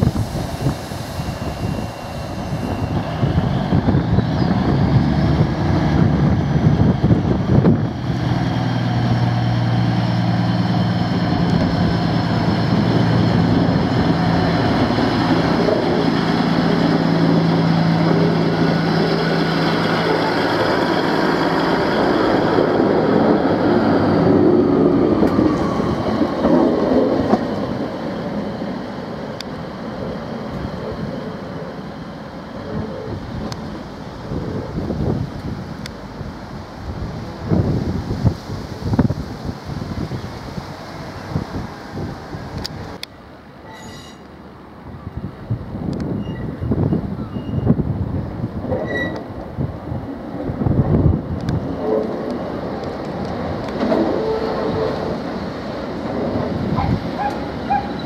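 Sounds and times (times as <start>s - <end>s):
diesel train engine droning: 0.0s - 58.0s.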